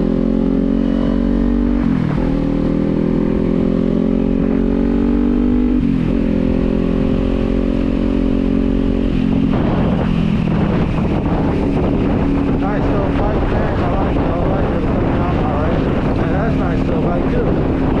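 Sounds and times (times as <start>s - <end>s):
motorcycle engine under way: 0.0s - 18.0s.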